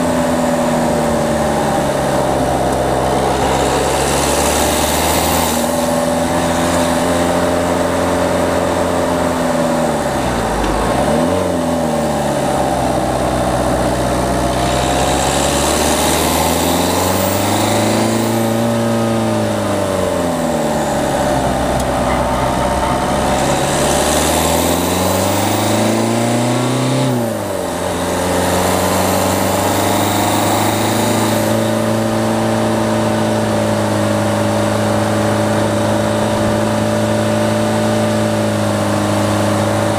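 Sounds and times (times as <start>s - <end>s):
diesel car engine pulling: 0.0s - 39.9s.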